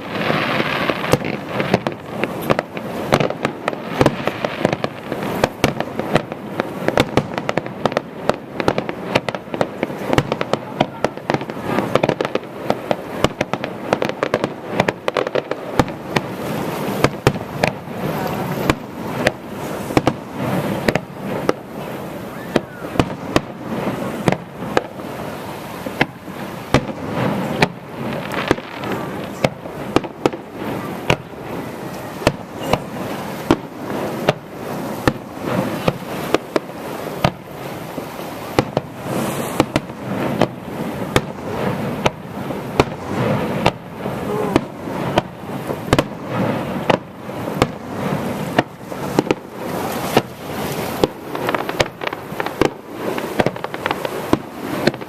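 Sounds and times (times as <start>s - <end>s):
firework shells bursting: 0.0s - 55.0s.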